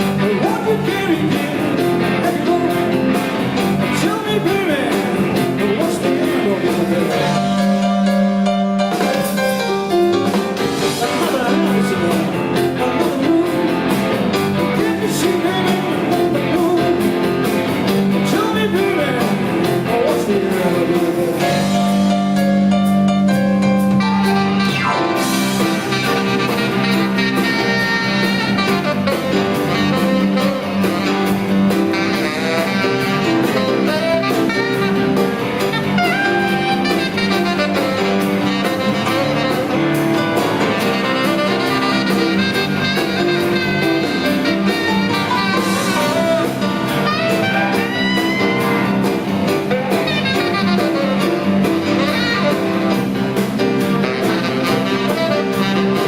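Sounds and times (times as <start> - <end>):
blues band playing: 0.0 - 56.0
melodic lead line: 0.0 - 56.0
steady drum beat: 0.0 - 56.0.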